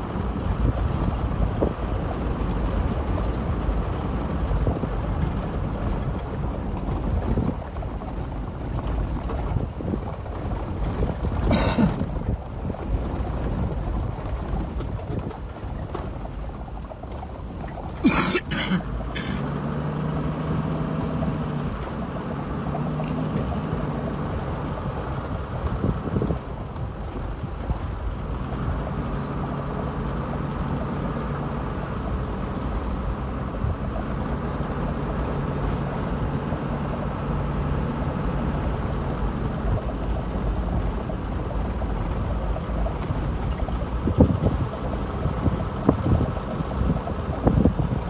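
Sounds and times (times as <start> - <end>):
wind buffeting microphone: 0.0 - 18.0, 21.3 - 48.0
vehicle engine and road rumble: 0.0 - 48.0
vehicle jolts: 0.0 - 48.0.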